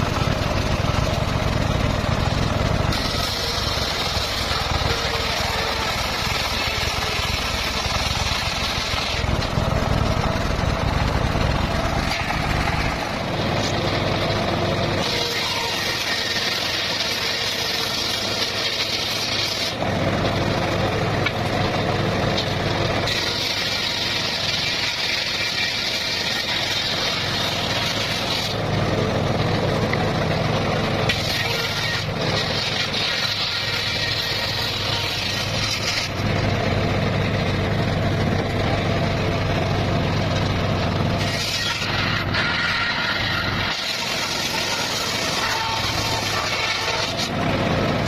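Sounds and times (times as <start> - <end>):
circular saw cutting bamboo: 0.0 - 48.0.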